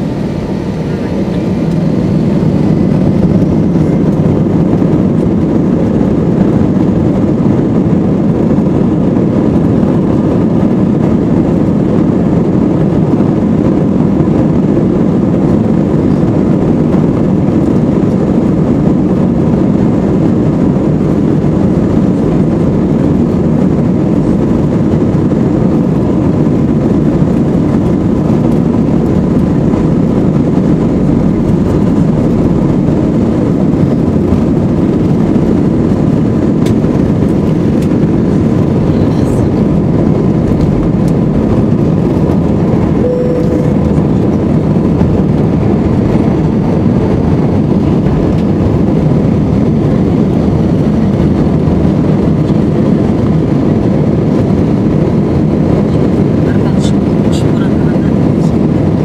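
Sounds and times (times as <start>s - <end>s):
jet engines at takeoff power: 0.0s - 59.0s.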